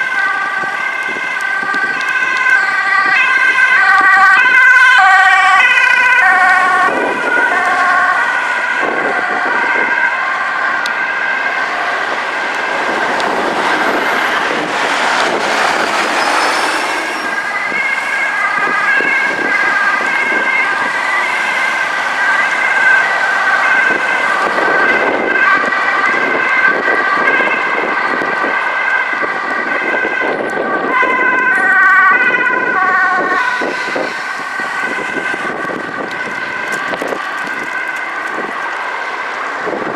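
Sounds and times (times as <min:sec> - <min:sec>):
ambulance two-tone siren: 0:00.0 - 0:39.9
passing vehicle road noise: 0:00.0 - 0:39.9.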